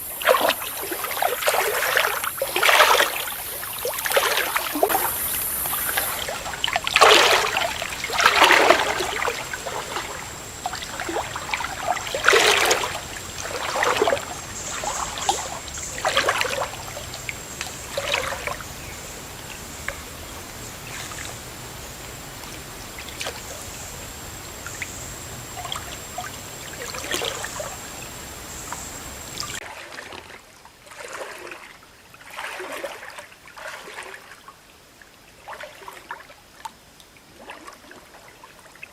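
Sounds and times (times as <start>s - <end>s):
water splashing and sloshing: 0.0s - 38.9s
water trickling: 0.0s - 38.9s.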